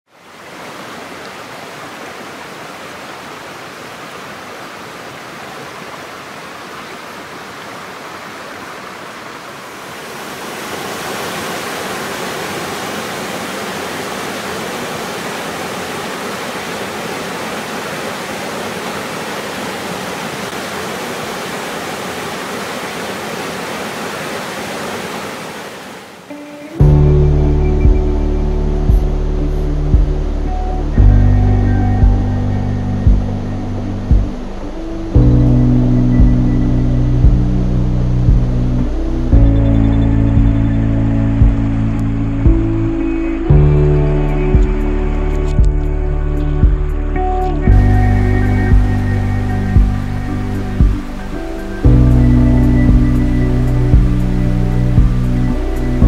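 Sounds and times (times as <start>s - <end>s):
creek water rushing over rocks: 0.1s - 56.0s.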